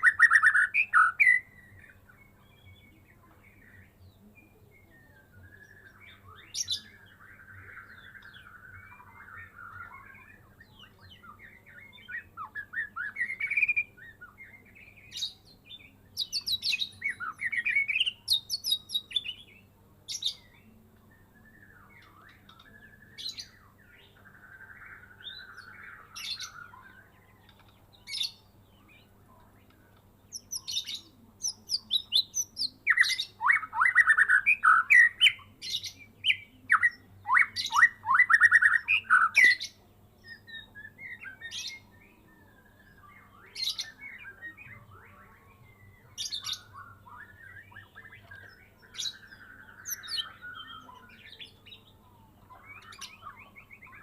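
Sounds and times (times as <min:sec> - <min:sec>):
songbird whistles and chirps: 0:00.0 - 0:54.0.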